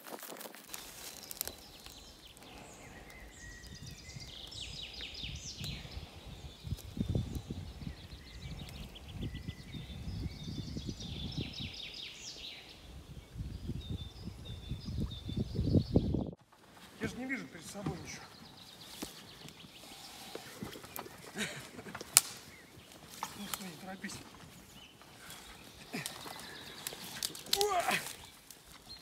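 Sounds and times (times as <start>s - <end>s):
songbirds singing: 0.7s - 29.0s.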